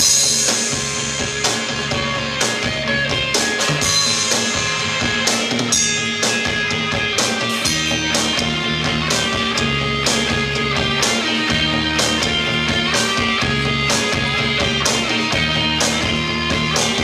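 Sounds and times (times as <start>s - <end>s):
drum kit cymbal hits: 0.0s - 17.0s
rock band playing live: 0.0s - 17.0s.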